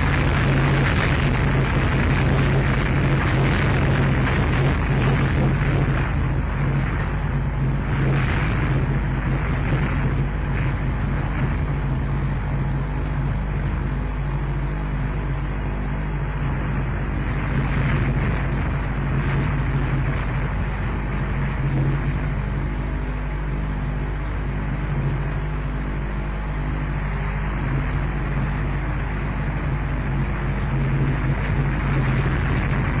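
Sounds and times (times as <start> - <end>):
constant low hum: 0.0 - 33.0
rumbling hiss: 0.0 - 33.0.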